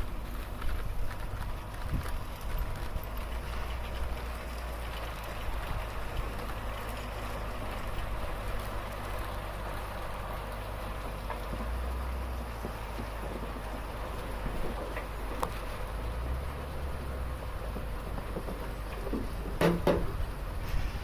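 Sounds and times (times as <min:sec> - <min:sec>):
low engine rumble: 0:00.0 - 0:21.0
potatoes and soil tumbling: 0:00.0 - 0:21.0.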